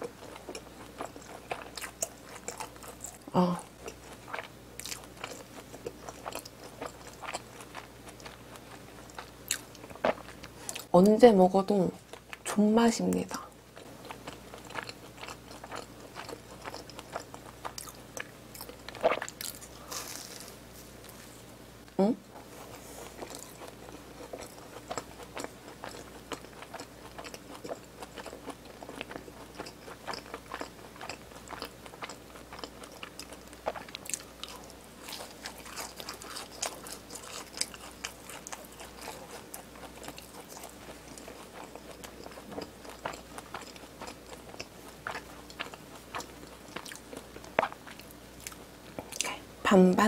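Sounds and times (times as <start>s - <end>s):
chewing crunchy snack: 0.0s - 10.9s, 13.7s - 21.4s, 22.4s - 49.3s.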